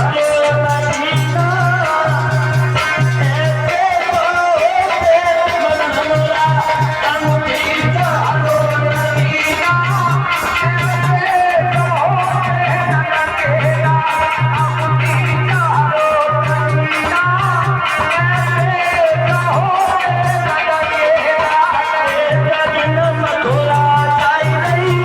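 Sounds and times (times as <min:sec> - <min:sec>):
low drum beat: 0:00.0 - 0:20.6
person singing: 0:00.0 - 0:25.0.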